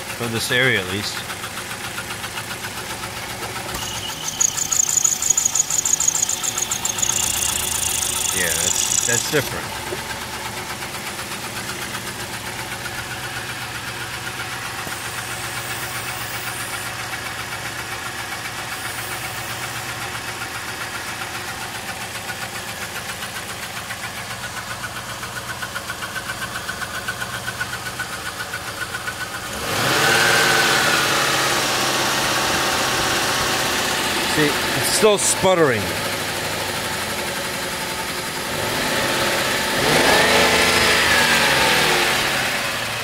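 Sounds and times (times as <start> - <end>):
car engine idling and sputtering: 0.0 - 43.0.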